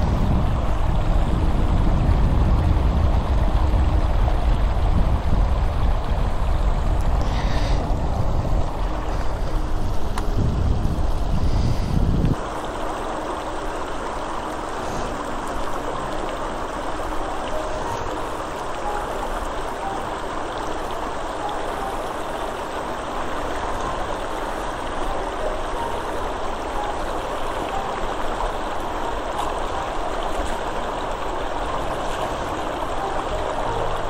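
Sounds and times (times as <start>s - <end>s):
stream rushing over stones: 0.0s - 34.0s.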